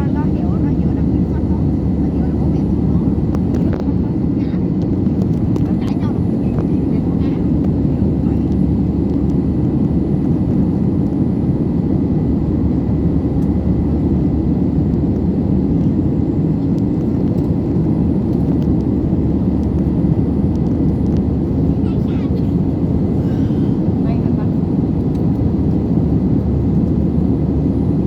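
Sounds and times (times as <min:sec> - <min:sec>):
airliner cabin engine noise: 0:00.0 - 0:28.0.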